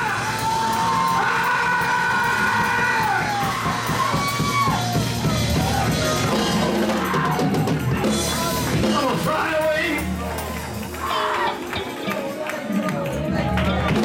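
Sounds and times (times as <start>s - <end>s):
voices singing and shouting: 0.0s - 12.1s
lively church music with drums: 0.0s - 14.0s.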